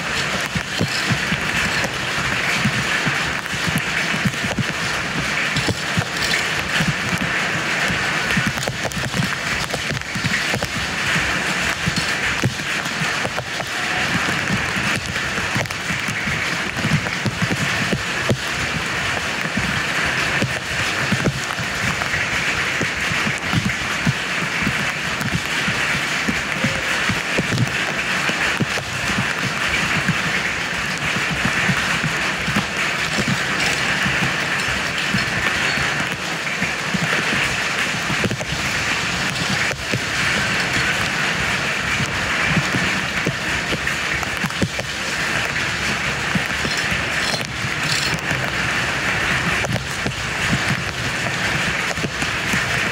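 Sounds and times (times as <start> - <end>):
rain and water rushing into drain: 0.0 - 52.9.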